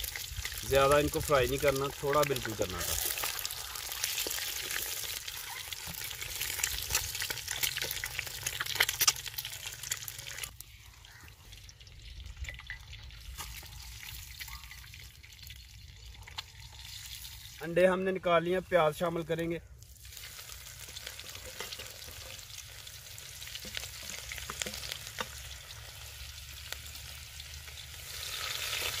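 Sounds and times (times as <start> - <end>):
eggs sizzling in hot oil: 0.0 - 17.7, 19.8 - 29.0.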